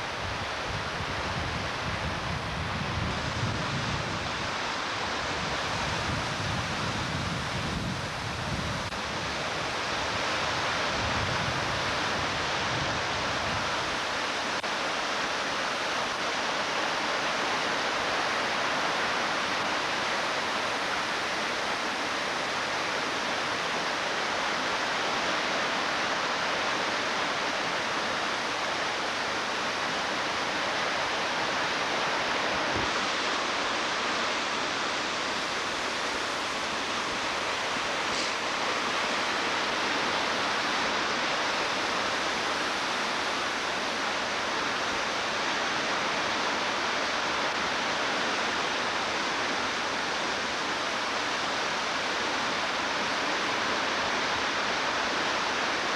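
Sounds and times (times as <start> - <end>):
rushing creek water: 0.0 - 55.9.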